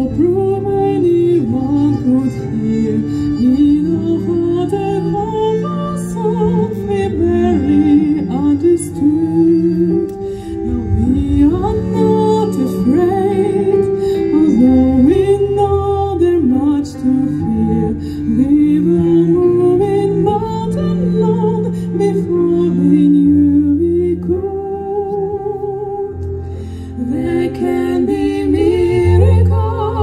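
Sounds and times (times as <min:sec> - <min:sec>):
woman singing: 0:00.0 - 0:26.3, 0:26.9 - 0:30.0
piano: 0:00.0 - 0:30.0.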